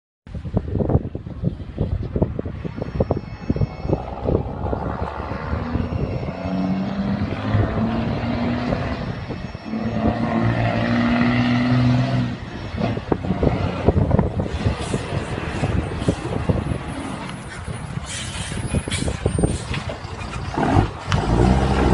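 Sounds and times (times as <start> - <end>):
truck engine droning: 1.4 - 21.9.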